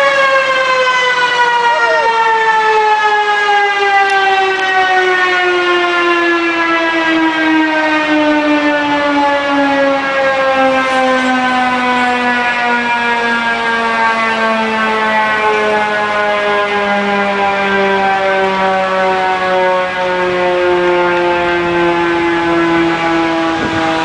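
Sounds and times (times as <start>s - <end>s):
mechanical fire siren winding down: 0.0s - 24.0s.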